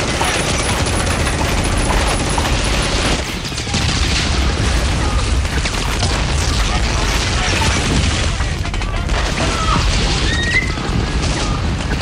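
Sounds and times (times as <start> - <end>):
rapid gunfire-like bangs: 0.0 - 12.0.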